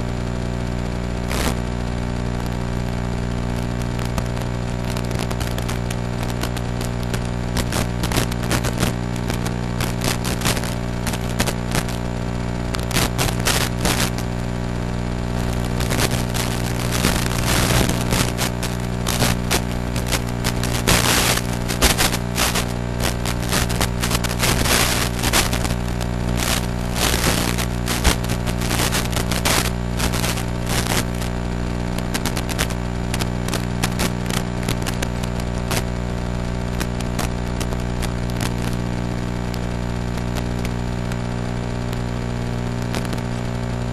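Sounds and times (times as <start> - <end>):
crackling radio static: 0.0 - 43.9
steady electrical buzz: 0.0 - 43.9.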